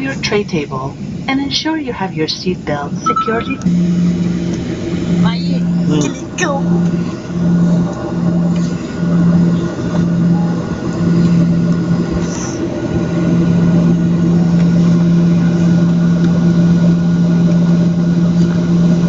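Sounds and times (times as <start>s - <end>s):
aircraft engines humming: 0.0s - 19.0s.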